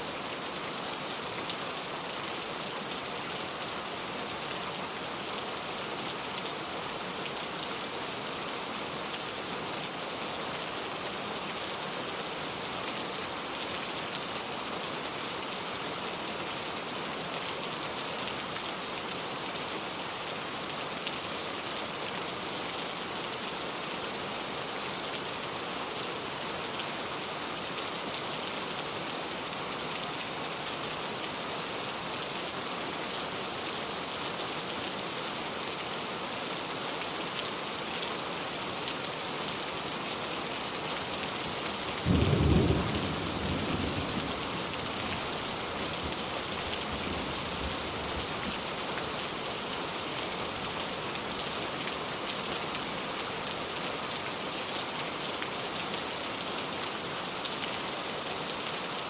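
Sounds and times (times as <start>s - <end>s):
heavy rain pouring: 0.1s - 59.0s.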